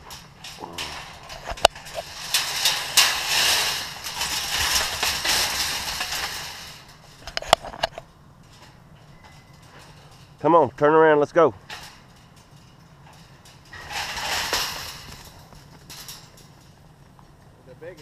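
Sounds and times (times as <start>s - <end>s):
crackling rustle: 0.0s - 18.0s
wire cage clanking and rattling: 0.0s - 18.0s.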